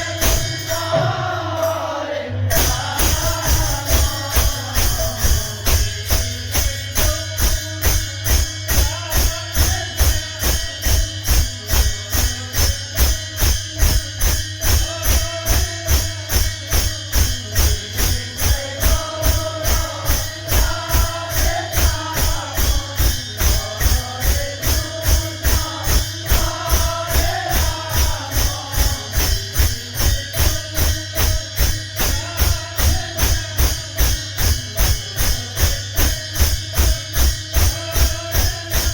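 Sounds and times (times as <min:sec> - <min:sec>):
drum beat: 0:00.0 - 0:38.9
jingling hand percussion: 0:00.0 - 0:38.9.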